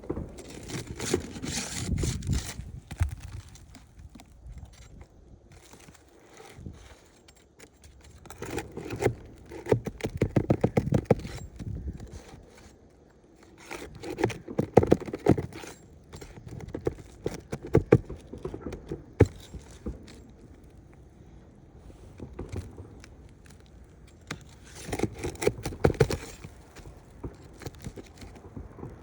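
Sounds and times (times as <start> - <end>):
pry bar scraping shingles: 0.0 - 29.0.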